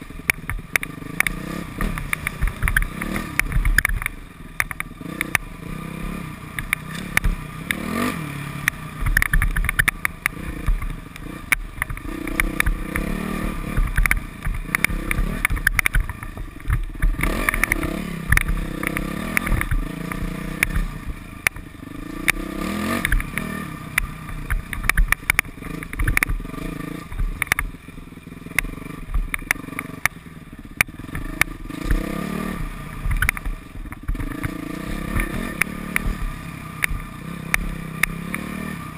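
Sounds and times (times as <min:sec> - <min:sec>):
dirt bike engine revving: 0:00.0 - 0:38.9
sharp knocks and clatter: 0:00.2 - 0:05.5, 0:08.6 - 0:27.8, 0:30.8 - 0:38.5.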